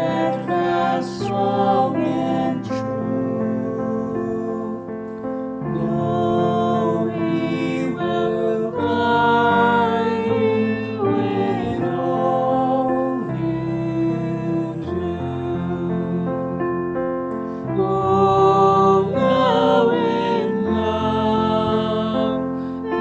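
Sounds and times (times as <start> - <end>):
slow worship music: 0.0 - 23.0.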